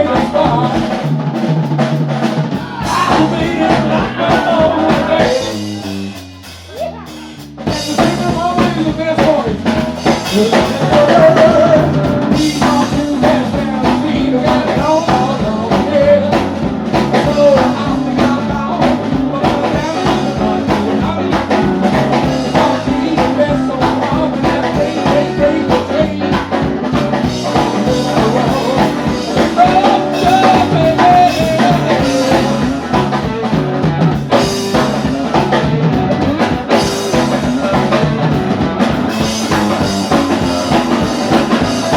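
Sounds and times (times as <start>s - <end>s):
drum kit steady beat: 0.0s - 41.9s
electric guitar: 0.0s - 41.9s.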